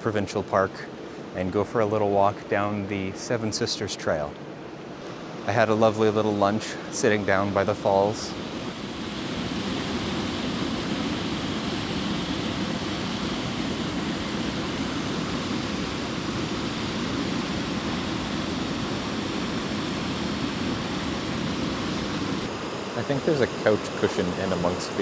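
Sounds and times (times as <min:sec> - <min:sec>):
waterfall rushing: 0:02.9 - 0:25.0.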